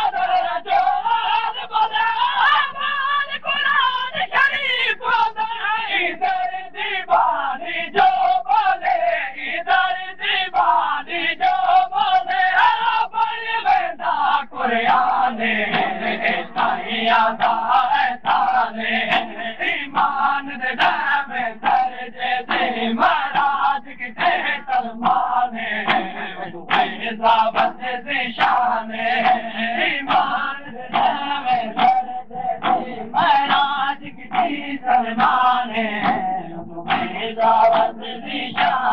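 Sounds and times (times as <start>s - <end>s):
crowd of men chanting in chorus: 0.0s - 38.9s.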